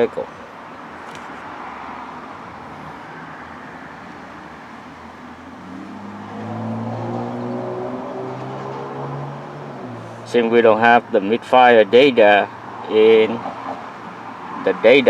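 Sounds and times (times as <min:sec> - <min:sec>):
engine hum: 0:00.0 - 0:15.0
steady background noise: 0:00.0 - 0:15.0.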